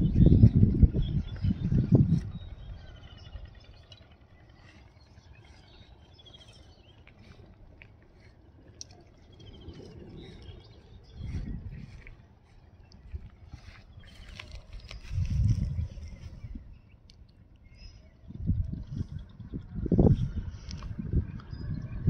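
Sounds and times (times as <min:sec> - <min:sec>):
loud low rumble: 0:00.0 - 0:16.9, 0:18.3 - 0:22.0
small birds chirping: 0:00.0 - 0:22.0.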